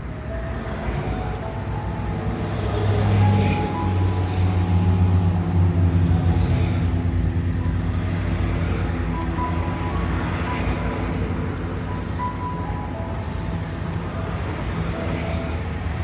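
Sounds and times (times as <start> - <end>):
highway traffic rush: 0.0 - 16.0
vehicle passing close: 0.0 - 16.0.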